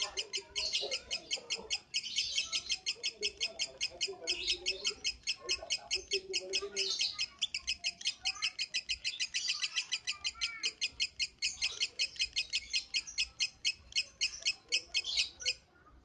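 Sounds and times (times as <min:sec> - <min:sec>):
lovebird chirping rapidly: 0:00.0 - 0:15.6.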